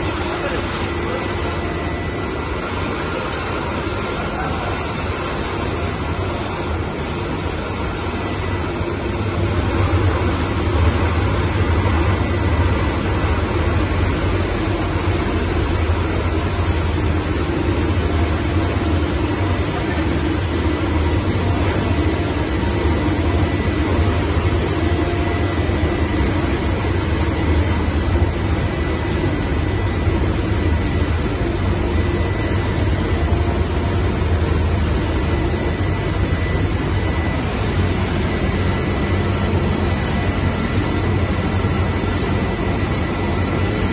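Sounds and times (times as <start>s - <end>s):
faint high whine: 0.0s - 43.9s.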